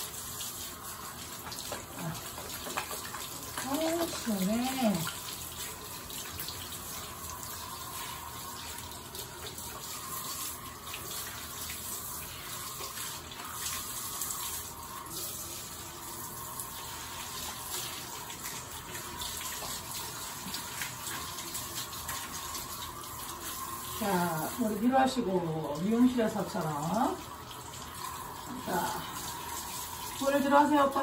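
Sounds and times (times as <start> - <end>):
shower water spraying on dog: 0.0 - 31.0
water splashing on tiled floor: 0.0 - 31.0.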